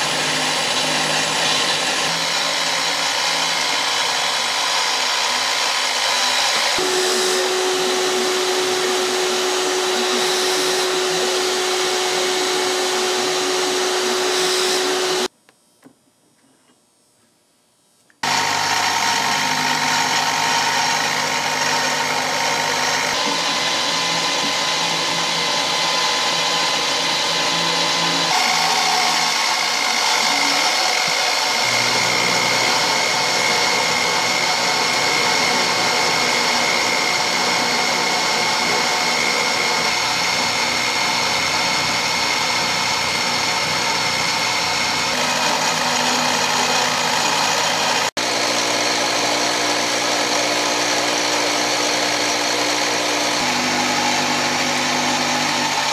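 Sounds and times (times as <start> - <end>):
high motor whine: 0.0 - 15.3, 18.2 - 55.9
milling machine cutting metal: 0.0 - 15.3, 18.2 - 55.9.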